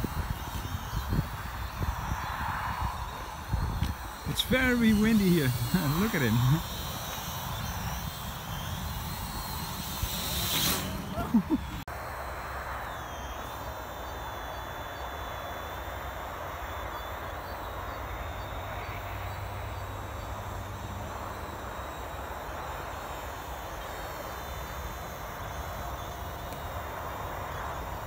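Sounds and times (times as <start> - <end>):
drone humming overhead: 0.0 - 28.0.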